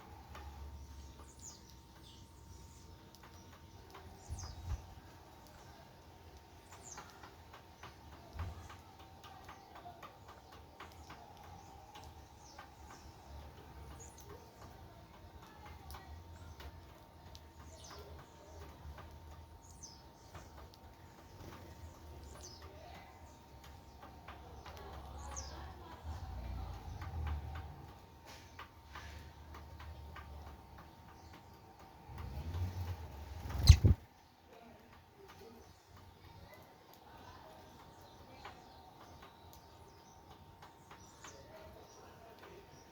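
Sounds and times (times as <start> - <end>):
bird chirp: 0.0 - 42.9
birds pecking on wooden board: 0.0 - 42.9.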